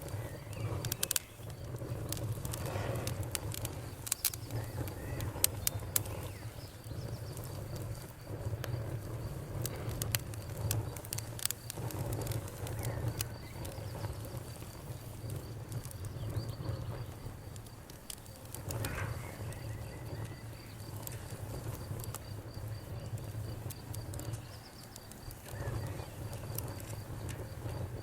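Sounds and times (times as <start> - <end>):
cricket chirping: 0.0 - 28.0
wood fire crackling and popping: 0.0 - 28.0.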